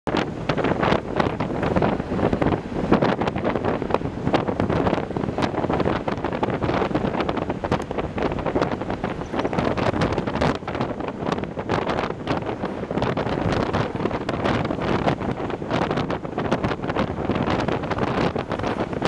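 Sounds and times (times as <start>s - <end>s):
wind buffeting microphone: 0.1s - 19.0s.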